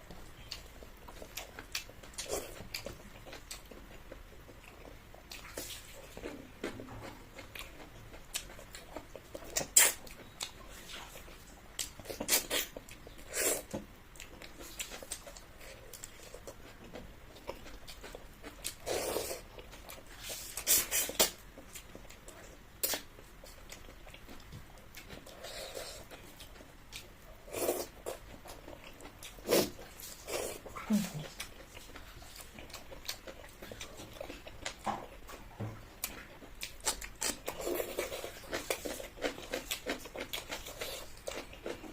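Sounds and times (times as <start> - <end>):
person chewing food: 0.0 - 41.9.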